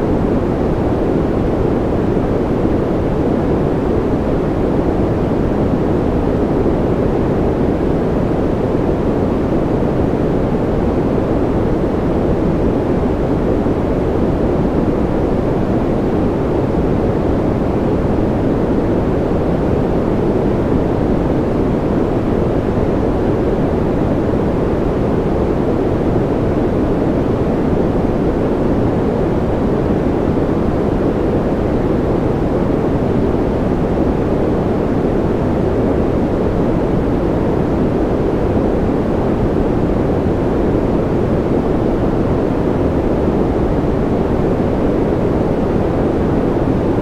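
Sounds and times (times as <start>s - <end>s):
deep white noise: 0.0s - 47.0s.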